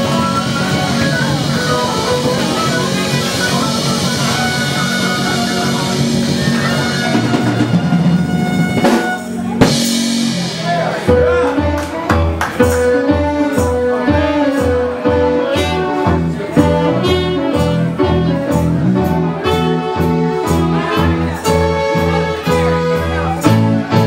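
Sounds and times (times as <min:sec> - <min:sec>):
dance band playing: 0:00.0 - 0:24.0.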